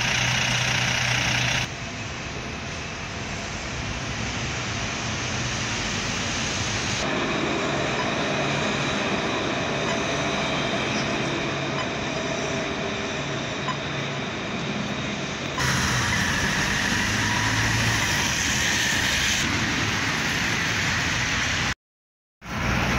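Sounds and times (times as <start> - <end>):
city street traffic: 0.0 - 21.8, 22.4 - 22.9.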